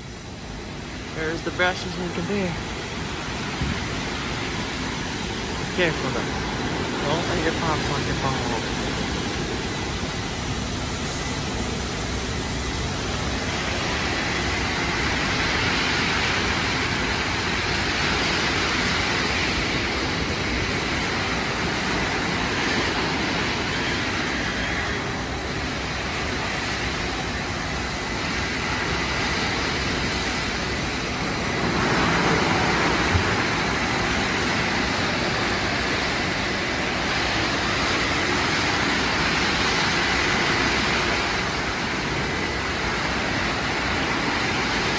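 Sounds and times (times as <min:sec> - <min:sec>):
car wash equipment hissing: 0:00.0 - 0:44.9.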